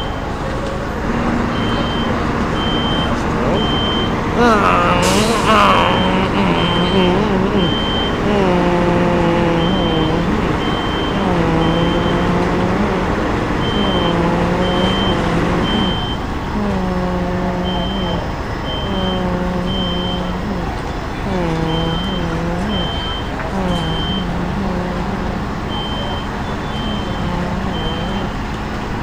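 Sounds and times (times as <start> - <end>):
diesel engine drone: 0.0 - 29.0
backup alarm beeping: 1.0 - 28.5.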